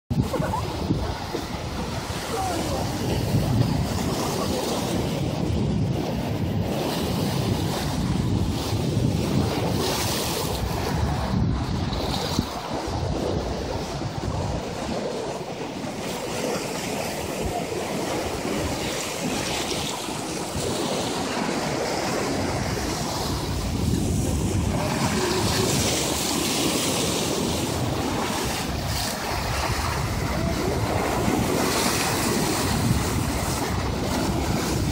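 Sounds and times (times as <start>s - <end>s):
waves breaking over rocks: 0.1s - 34.9s
wind buffeting microphone: 0.1s - 34.9s.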